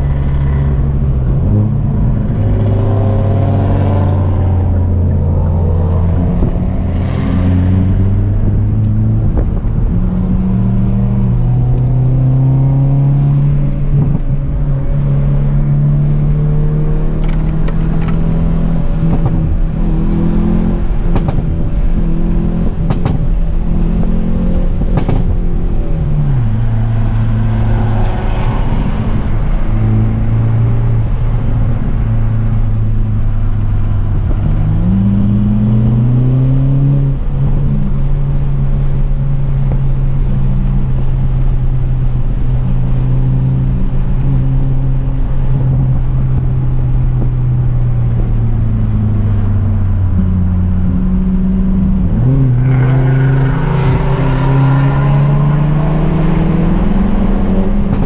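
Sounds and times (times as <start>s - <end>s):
car engine under load: 0.0s - 58.0s.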